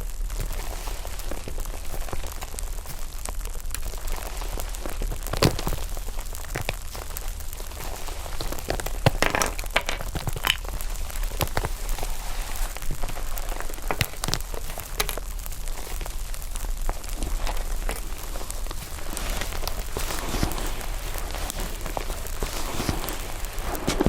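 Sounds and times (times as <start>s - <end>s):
foam slime crackling and popping: 0.0s - 24.0s.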